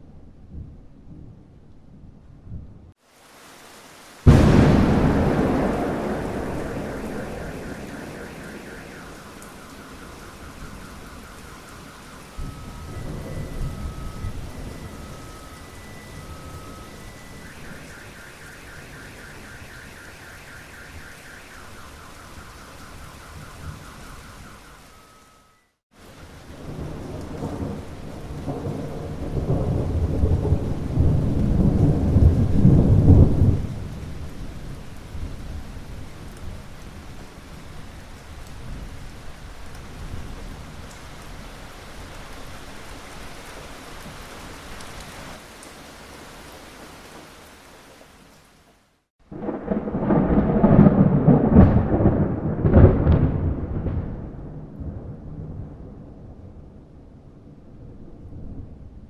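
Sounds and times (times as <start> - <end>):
rain hissing: 3.0 - 51.6
rolling thunder: 4.2 - 25.4, 26.0 - 44.7, 49.3 - 59.0.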